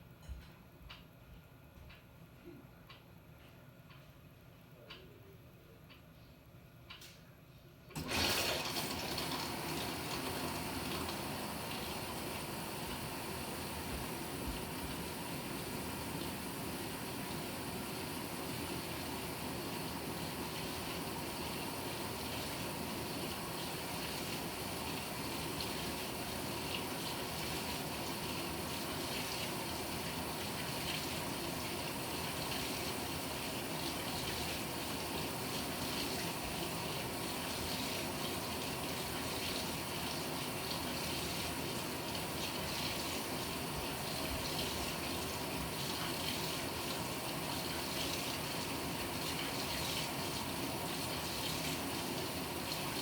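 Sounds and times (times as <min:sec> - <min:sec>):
water pouring into washing machine: 0:08.0 - 0:53.0.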